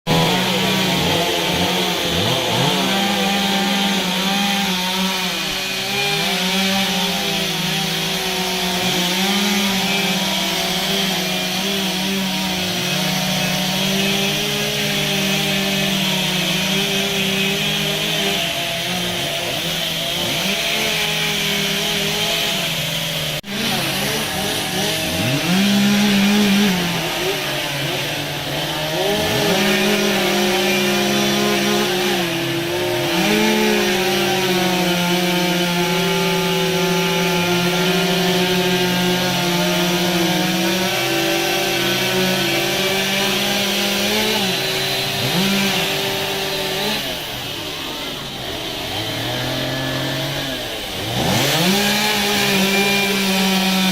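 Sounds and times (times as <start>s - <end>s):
chainsaws revving and cutting: 0.0s - 53.9s.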